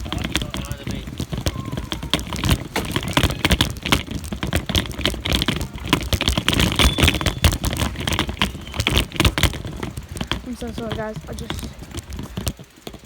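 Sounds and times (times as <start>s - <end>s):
crackling and rattling clicks: 0.0s - 13.0s.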